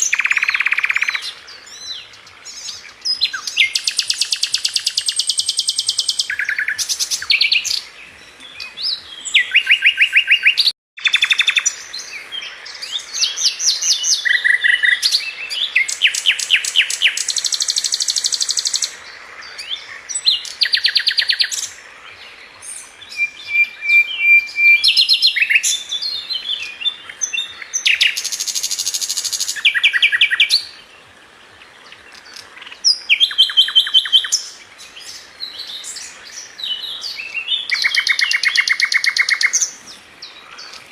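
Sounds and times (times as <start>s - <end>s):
bird song with trills: 0.0s - 40.9s.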